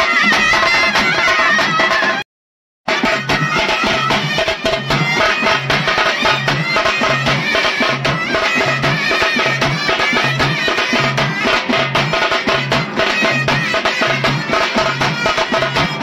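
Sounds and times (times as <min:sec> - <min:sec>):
steady drum beat: 0:00.0 - 0:02.2, 0:02.9 - 0:16.0
wavering wind instrument melody: 0:00.0 - 0:02.2, 0:02.9 - 0:16.0.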